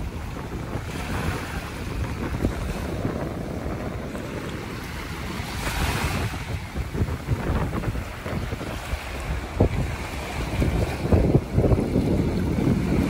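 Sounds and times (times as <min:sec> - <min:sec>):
small waves washing onto sand: 0:00.0 - 0:13.0
wind buffeting microphone: 0:00.0 - 0:13.0.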